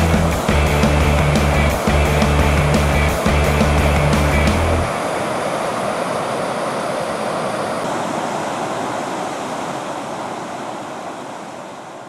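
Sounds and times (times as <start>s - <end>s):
waterfall and rapids rushing: 0.0s - 12.0s.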